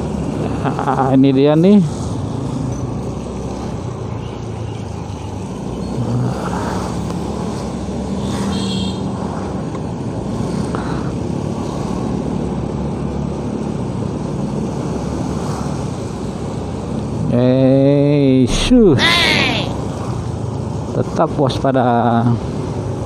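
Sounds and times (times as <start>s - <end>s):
road and wind noise: 0.0s - 23.0s.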